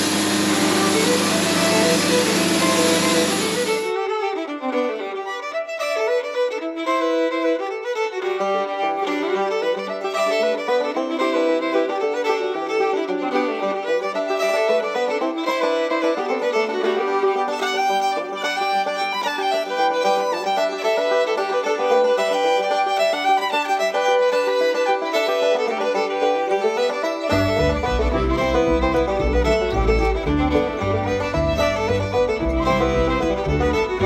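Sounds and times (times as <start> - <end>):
instrumental fiddle tune: 0.0 - 34.0.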